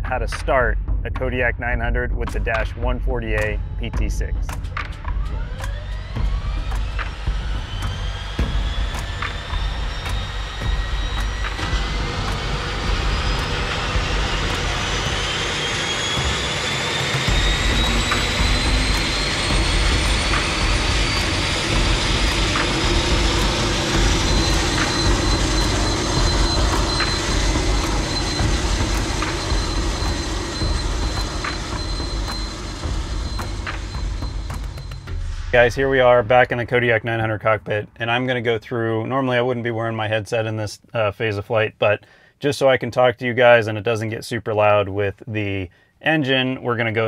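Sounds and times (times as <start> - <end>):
engine roar and low rumble: 0.0 - 40.2
turboprop turbine whine: 0.0 - 40.2.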